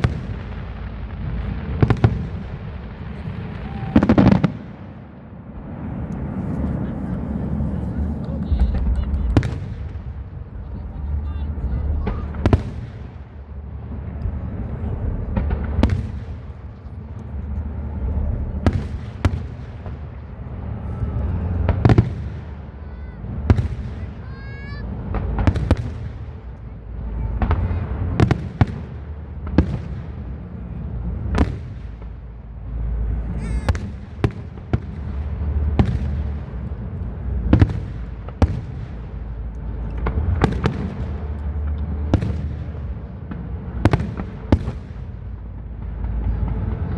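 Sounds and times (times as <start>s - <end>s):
low rumble from fireworks: 0.0s - 46.9s.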